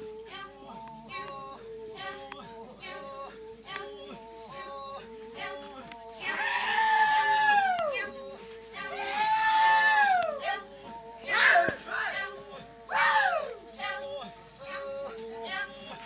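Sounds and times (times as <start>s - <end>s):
group singing a chant: 0.0s - 16.0s.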